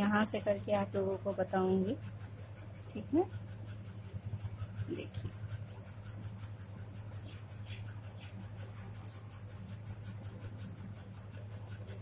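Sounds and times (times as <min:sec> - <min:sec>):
pen nib scratching paper: 0:00.0 - 0:12.0
steady low hum: 0:00.0 - 0:12.0.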